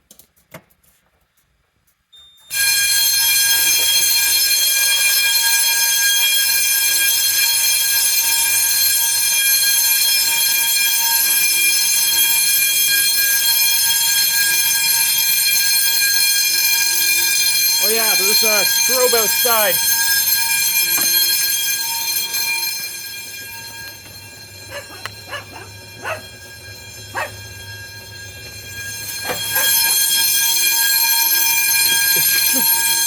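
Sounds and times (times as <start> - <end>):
fire alarm bell ringing: 2.1 - 33.0.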